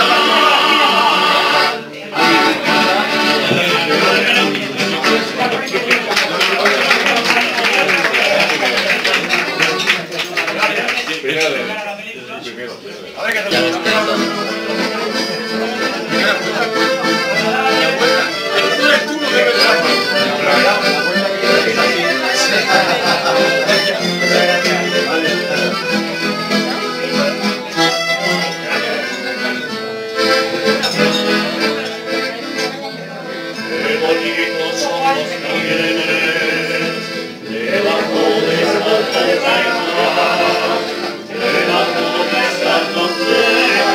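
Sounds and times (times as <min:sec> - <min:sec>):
accordion playing: 0:00.0 - 0:11.8, 0:13.2 - 0:43.9.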